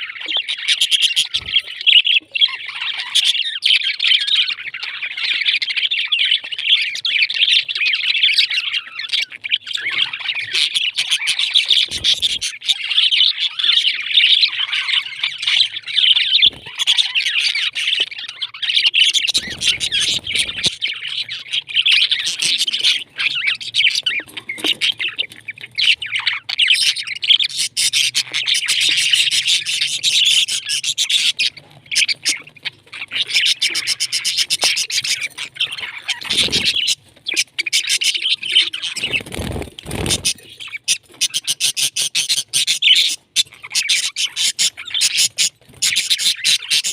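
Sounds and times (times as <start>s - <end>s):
parrots chirping and chattering: 0.0s - 46.9s.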